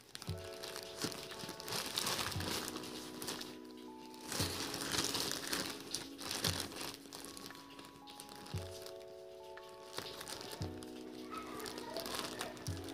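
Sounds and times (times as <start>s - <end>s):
background music with soft beat: 0.0s - 12.9s
plastic mailer bag crinkling: 0.0s - 12.9s.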